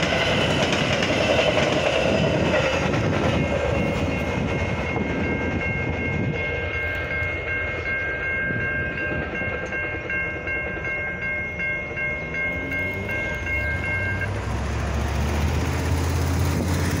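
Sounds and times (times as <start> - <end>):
railroad crossing bell ringing: 0.0 - 17.0
road traffic rumble: 0.0 - 17.0.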